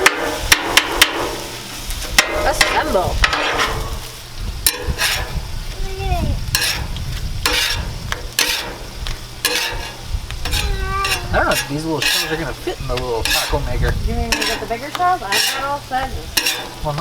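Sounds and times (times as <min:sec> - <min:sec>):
food sizzling in oil: 0:00.0 - 0:17.0
metal spatula scraping griddle: 0:00.0 - 0:17.0.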